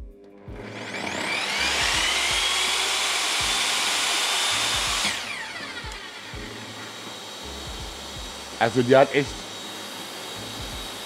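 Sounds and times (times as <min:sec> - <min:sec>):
table saw whine: 0:00.5 - 0:11.0.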